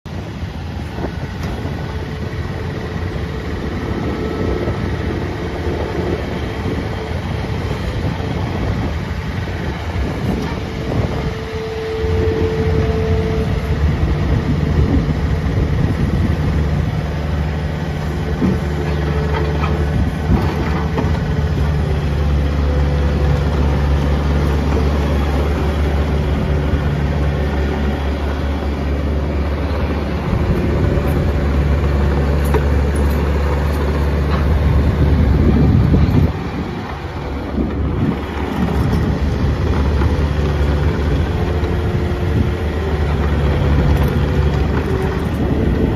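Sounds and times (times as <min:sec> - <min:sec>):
diesel engine running: 0:00.1 - 0:45.9.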